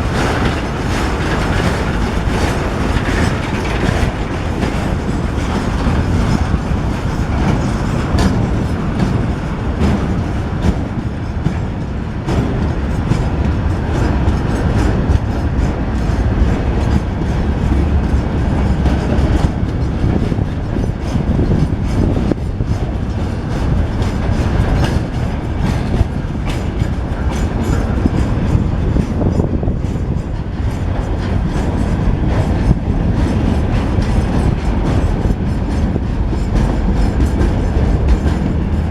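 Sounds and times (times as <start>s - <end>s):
train rumble: 0.0s - 38.9s
train wheels clattering: 0.0s - 38.9s.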